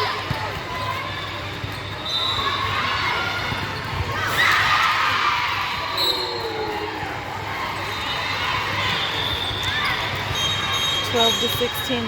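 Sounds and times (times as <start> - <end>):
people shouting and cheering: 0.0 - 12.0.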